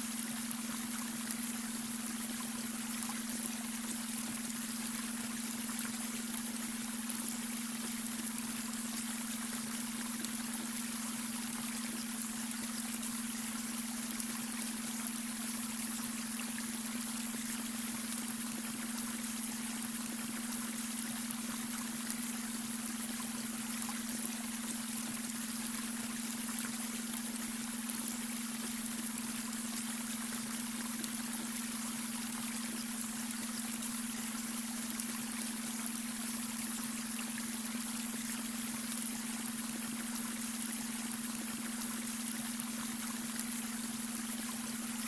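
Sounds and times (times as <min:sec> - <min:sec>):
constant low hum tone: 0:00.0 - 0:45.0.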